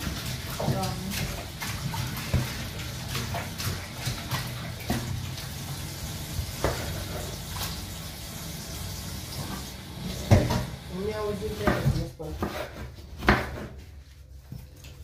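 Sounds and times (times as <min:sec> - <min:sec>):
light water noise: 0:00.0 - 0:12.2.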